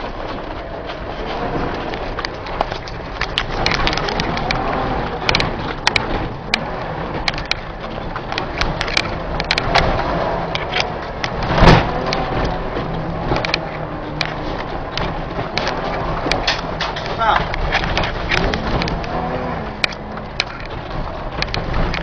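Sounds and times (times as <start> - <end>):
car engine running: 0.0 - 22.0
tyres on gravel: 0.0 - 22.0
sharp clicks: 1.9 - 22.0.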